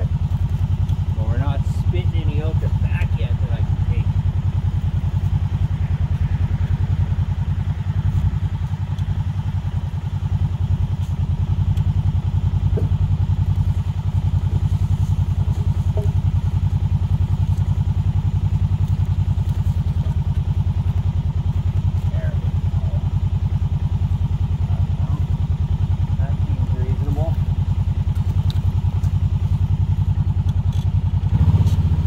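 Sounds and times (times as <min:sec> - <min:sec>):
quad engine running: 0:00.0 - 0:32.0.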